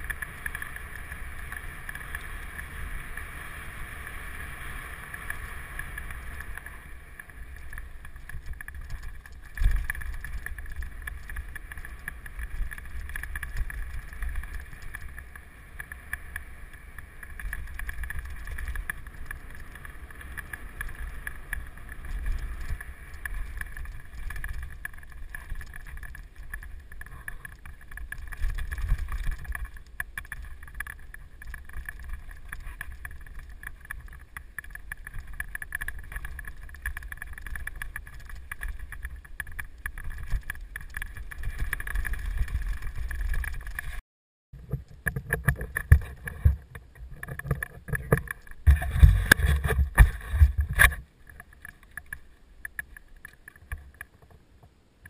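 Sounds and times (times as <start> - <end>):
tyres rumbling on rough ground: 0.0 - 44.0, 44.6 - 54.9.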